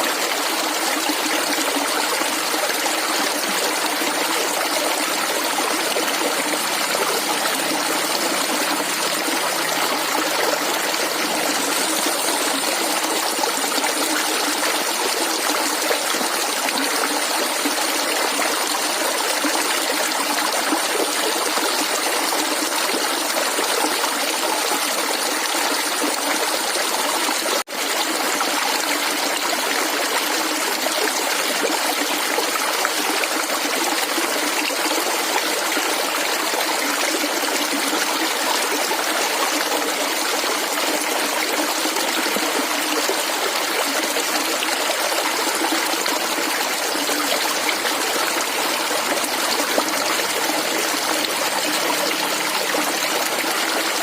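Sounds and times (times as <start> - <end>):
water gurgling over stones: 0.0 - 54.0.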